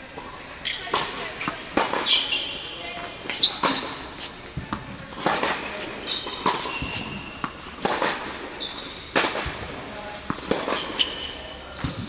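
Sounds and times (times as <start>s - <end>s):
shoes squeaking on court: 0.5s - 12.0s
tennis ball struck by rackets: 0.8s - 12.0s.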